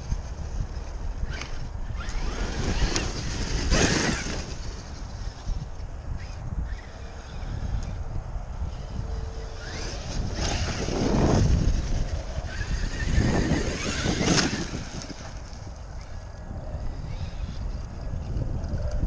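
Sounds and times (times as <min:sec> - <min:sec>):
wind noise on microphone: 0:00.0 - 0:19.0
rc truck motor whining: 0:00.3 - 0:19.0.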